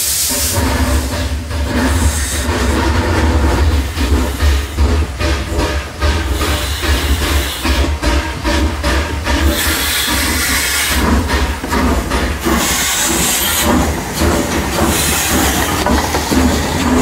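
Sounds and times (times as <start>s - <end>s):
steam hissing: 0.0s - 17.0s
steam train rumbling: 0.0s - 17.0s.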